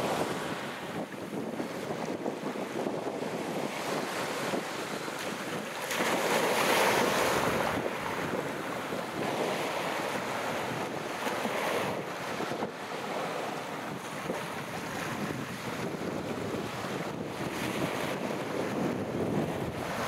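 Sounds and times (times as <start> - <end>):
sea waves breaking on shore: 0.0 - 20.0
wind buffeting microphone: 0.0 - 20.0.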